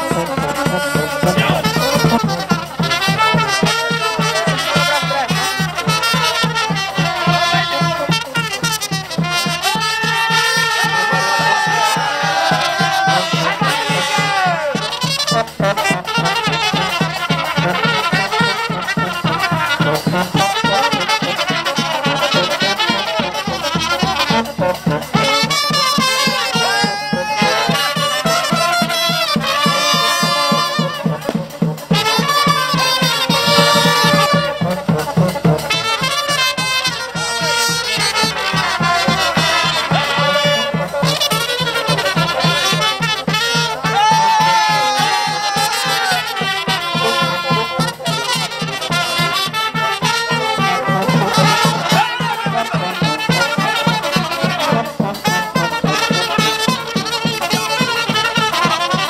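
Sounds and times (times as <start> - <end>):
brass band playing folk dance music: 0.0 - 59.0.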